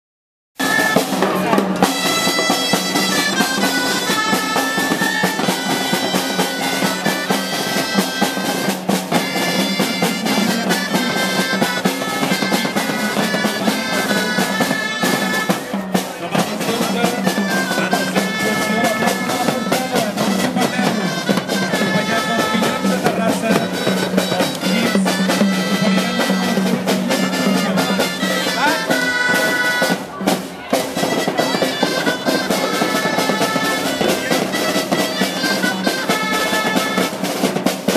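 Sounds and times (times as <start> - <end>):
marching drums: 0.6 - 37.9
reed pipes playing melody: 0.6 - 37.9.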